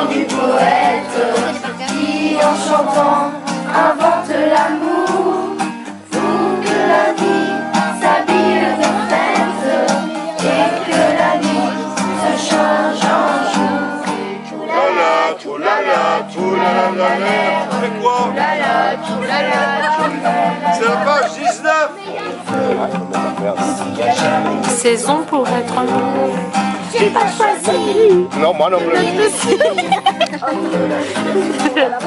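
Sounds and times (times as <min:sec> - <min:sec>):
group of people singing: 0:00.0 - 0:32.0
strummed guitar: 0:00.0 - 0:32.0.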